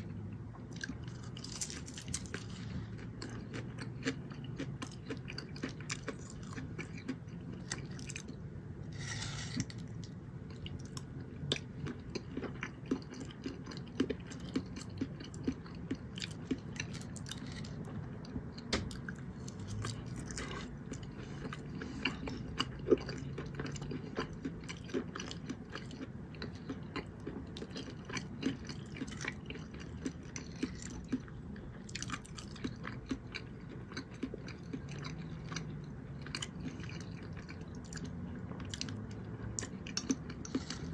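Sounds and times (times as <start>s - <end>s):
close chewing and mouth sounds: 0.0s - 40.9s.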